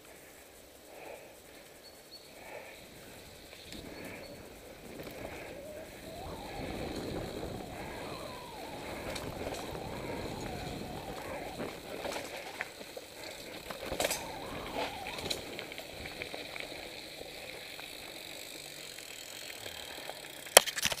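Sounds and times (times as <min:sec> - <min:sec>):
bike clicking: 0:00.0 - 0:21.0
bike tyres on dirt trail: 0:00.0 - 0:21.0.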